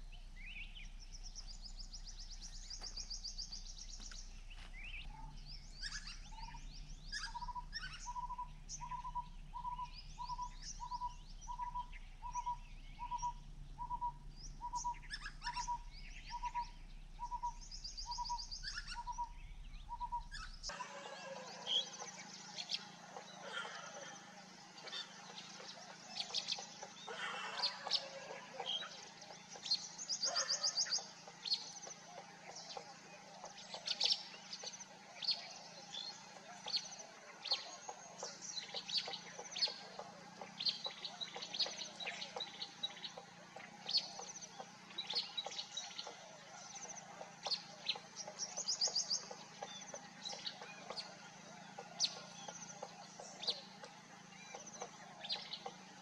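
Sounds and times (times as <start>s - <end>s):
bird trill: 0.0s - 56.0s
birds chirping: 0.0s - 56.0s
low steady hum: 0.0s - 56.0s.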